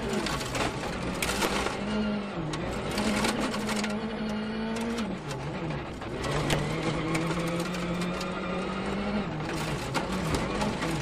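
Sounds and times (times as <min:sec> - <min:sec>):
car engine revving high: 0:00.0 - 0:11.0.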